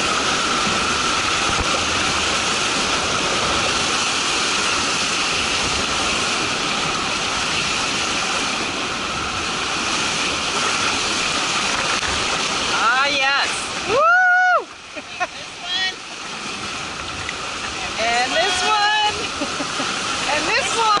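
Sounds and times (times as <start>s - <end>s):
waves breaking against raft: 0.0s - 21.0s
whitewater rushing: 0.0s - 21.0s.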